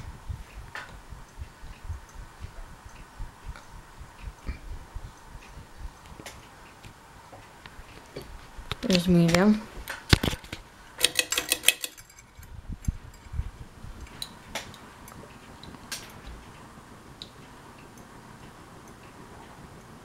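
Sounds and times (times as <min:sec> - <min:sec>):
ceiling fan hum: 0:00.0 - 0:20.0
fan clicks and ticks: 0:00.0 - 0:20.0.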